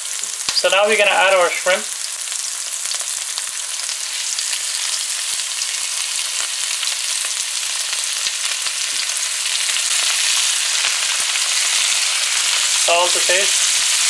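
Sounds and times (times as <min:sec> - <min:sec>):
hot oil sizzling in a pan: 0:00.0 - 0:14.0.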